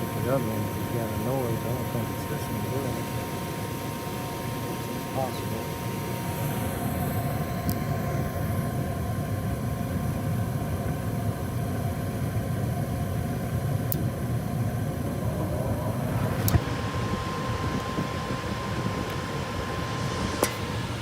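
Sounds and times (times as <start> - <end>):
faint steady whine: 0.0 - 21.0
gas furnace humming: 0.0 - 21.0.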